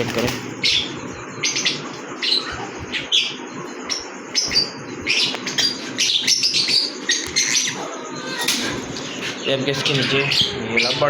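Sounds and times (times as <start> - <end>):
small parrots chirping: 0.0 - 11.0.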